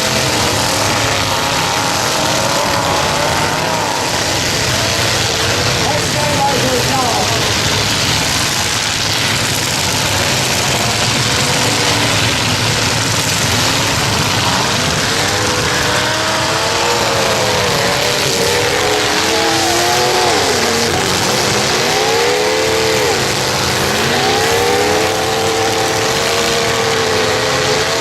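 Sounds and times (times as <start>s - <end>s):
engine revving: 0.0s - 28.0s
truck engines running hard: 0.0s - 28.0s.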